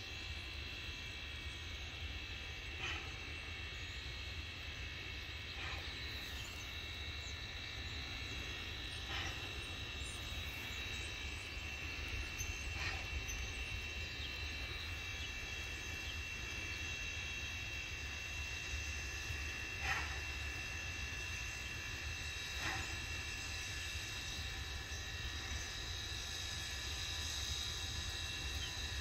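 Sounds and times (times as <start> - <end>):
steam locomotive exhaust puffs: 0.0 - 29.0.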